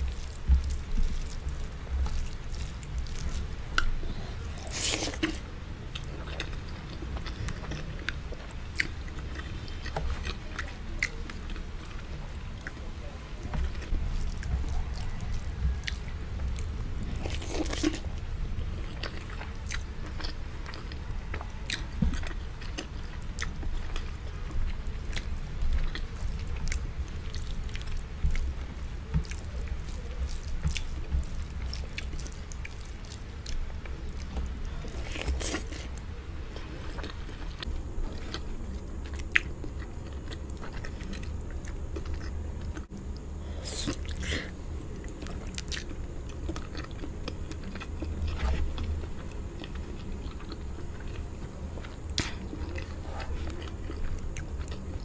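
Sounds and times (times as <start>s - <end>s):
chewing and biting: 0.0s - 12.8s, 13.5s - 55.0s.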